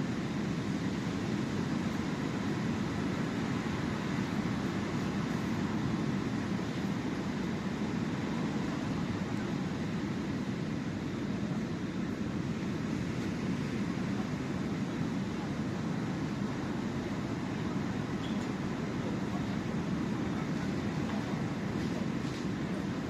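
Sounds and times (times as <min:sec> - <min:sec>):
sea surf on shore: 0:00.0 - 0:23.0.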